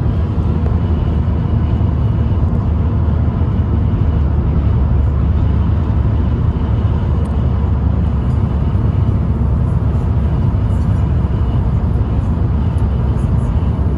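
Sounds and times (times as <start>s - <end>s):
car cabin road and engine noise: 0.0s - 13.9s.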